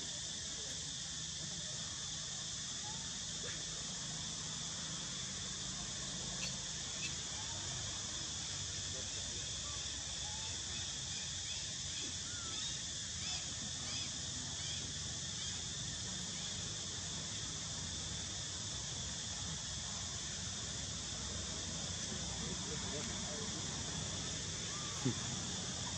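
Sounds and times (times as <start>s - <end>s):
high insect drone: 0.0s - 25.9s.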